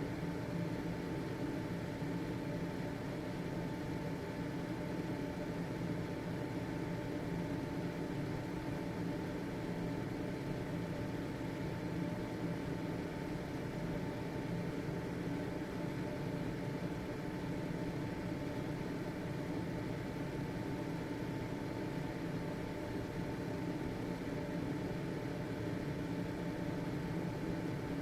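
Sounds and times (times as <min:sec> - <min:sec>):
ventilation fan running: 0:00.0 - 0:28.0.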